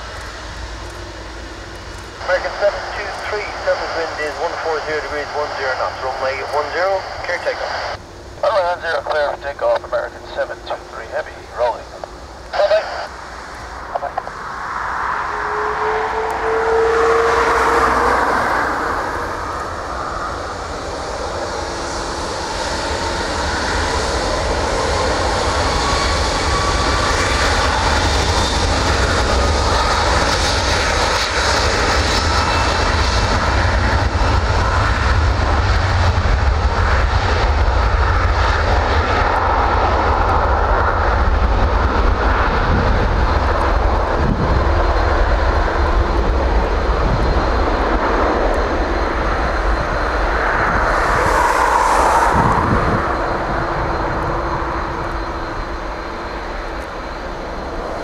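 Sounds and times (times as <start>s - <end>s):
jet engine roar: 0.0s - 58.0s.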